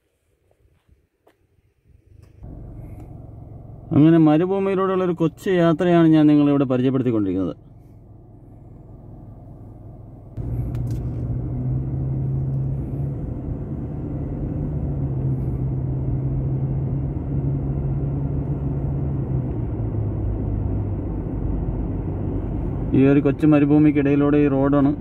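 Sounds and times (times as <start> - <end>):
car engine hum: 2.2 - 25.0
road noise: 2.2 - 25.0.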